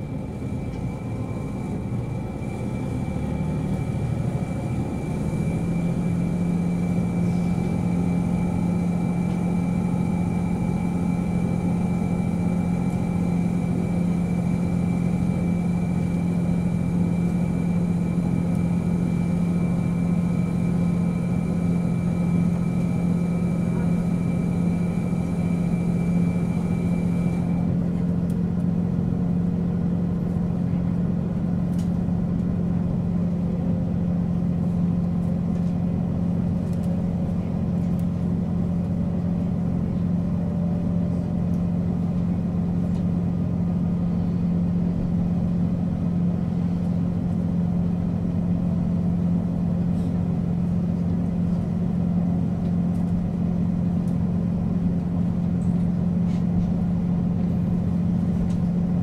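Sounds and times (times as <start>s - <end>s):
diesel railcar engine idling: 0.0s - 59.0s.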